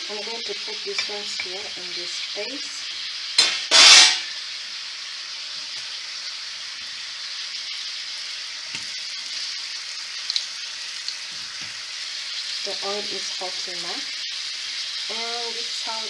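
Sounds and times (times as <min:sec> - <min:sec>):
slices frying in hot oil: 0:00.0 - 0:16.0.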